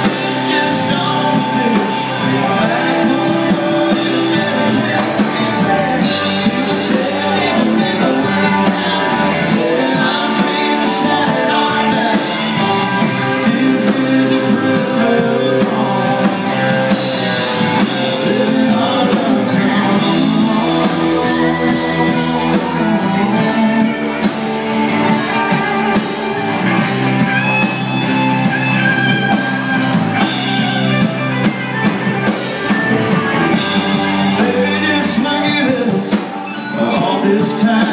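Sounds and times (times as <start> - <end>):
country band playing: 0.0 - 37.9
person singing: 0.0 - 37.9.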